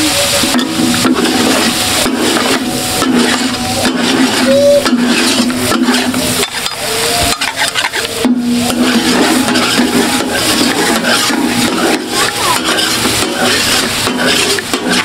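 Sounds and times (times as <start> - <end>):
metal spatulas scraping griddle: 0.5 - 15.0.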